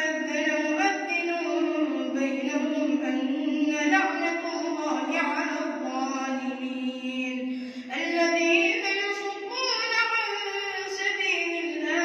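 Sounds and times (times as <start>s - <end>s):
boy reciting melodically: 0.0s - 12.0s.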